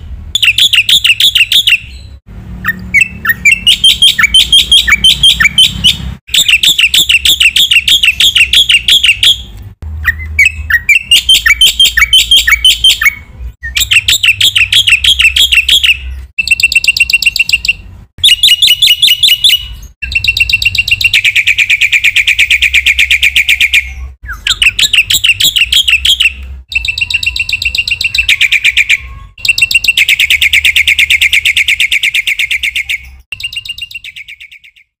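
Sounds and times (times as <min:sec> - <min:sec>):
bird singing: 0:00.0 - 0:35.0.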